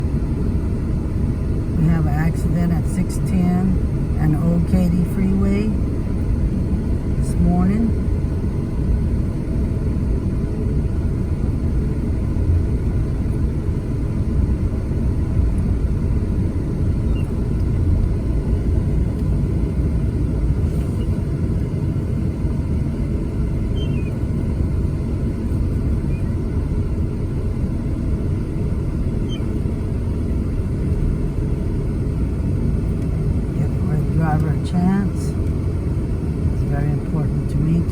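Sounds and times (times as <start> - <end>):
car engine and road noise: 0.0 - 37.9.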